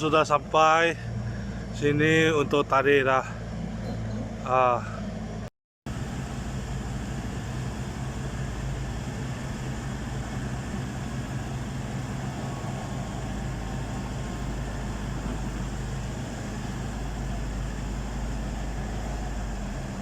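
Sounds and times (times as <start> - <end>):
diesel machine engine droning: 0.0 - 20.0.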